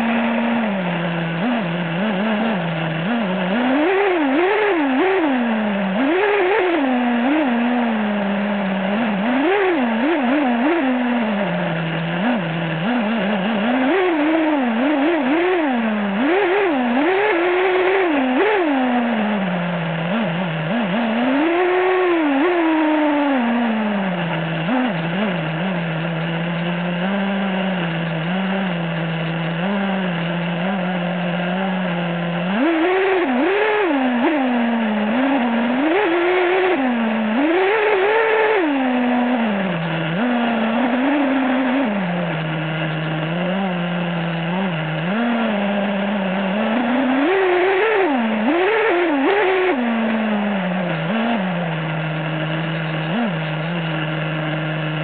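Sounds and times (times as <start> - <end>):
rc truck engine revving: 0.0 - 55.0.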